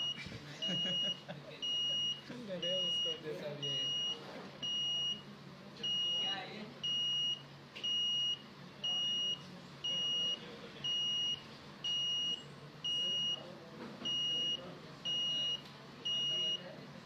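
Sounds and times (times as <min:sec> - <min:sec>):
high-pitched alarm beeps: 0:00.0 - 0:05.2, 0:05.9 - 0:13.4, 0:14.1 - 0:16.7.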